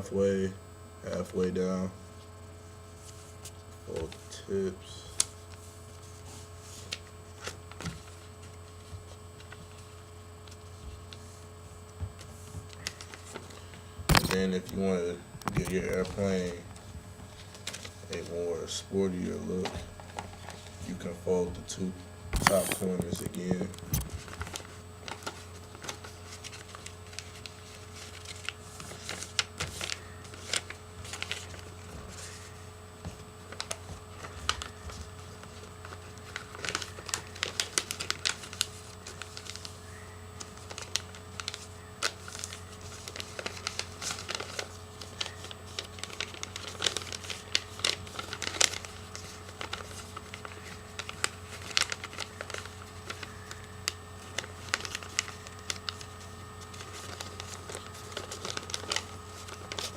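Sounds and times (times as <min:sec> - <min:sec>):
steady hum: 0:00.0 - 0:59.9
paper crinkling and snapping: 0:05.0 - 0:11.4, 0:12.0 - 0:18.3, 0:22.4 - 0:59.9.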